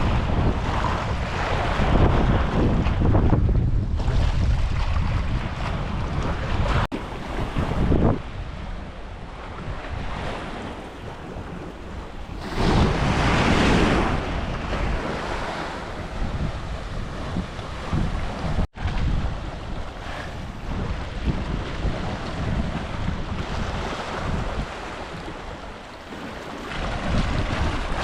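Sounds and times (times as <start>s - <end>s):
sea waves washing on beach: 0.0s - 28.0s
wind buffeting microphone: 0.0s - 28.0s.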